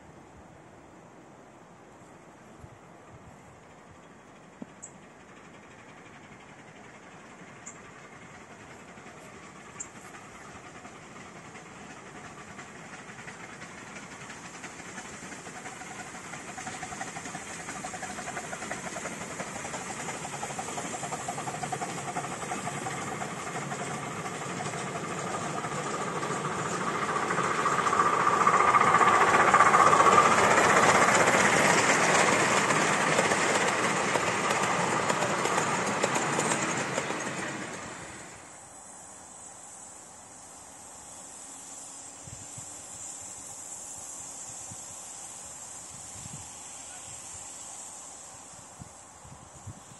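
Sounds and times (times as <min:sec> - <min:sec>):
miniature steam locomotive passing: 0:00.0 - 0:49.9.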